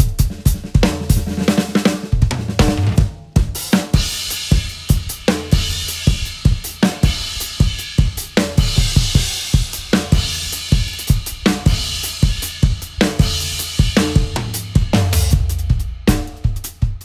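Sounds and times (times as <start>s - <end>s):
drum kit solo: 0.0s - 17.0s.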